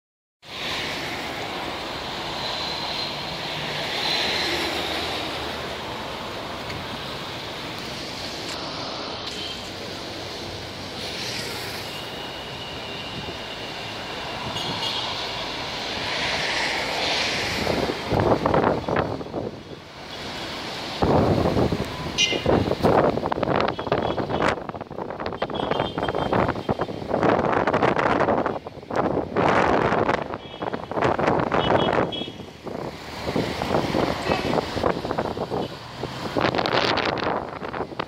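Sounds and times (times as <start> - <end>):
wind: 0.4 - 38.0.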